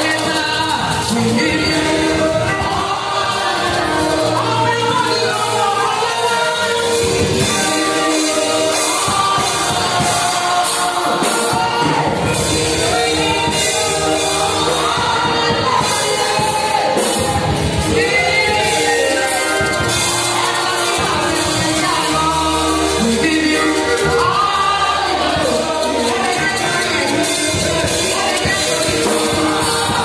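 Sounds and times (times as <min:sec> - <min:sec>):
drums: 0:00.0 - 0:30.0
group singing gospel: 0:00.0 - 0:30.0
keyboard: 0:00.0 - 0:30.0.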